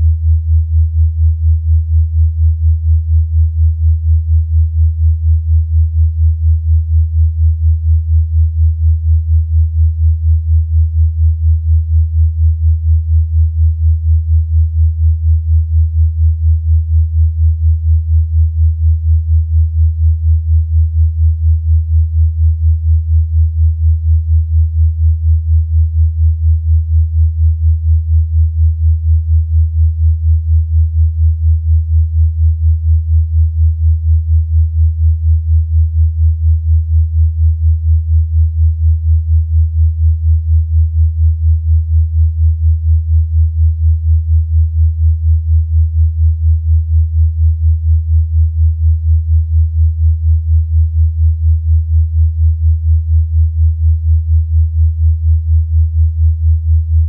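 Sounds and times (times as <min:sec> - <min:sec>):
pulsing low sine tone: 0:00.0 - 0:57.0.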